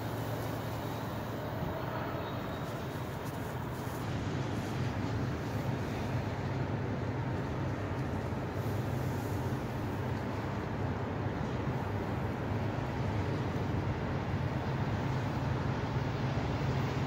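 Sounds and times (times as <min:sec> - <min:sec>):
distant freight train rumble: 0:00.0 - 0:17.0.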